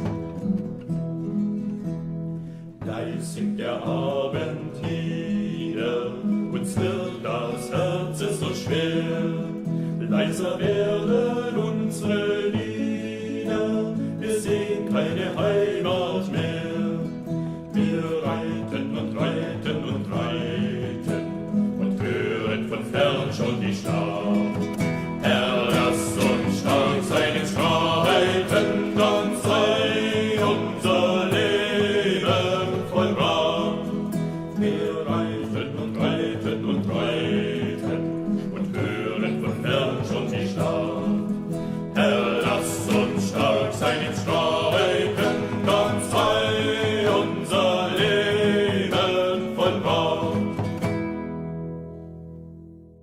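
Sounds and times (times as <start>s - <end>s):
strummed acoustic guitar: 0.0s - 53.0s
group singing in unison: 2.5s - 51.6s.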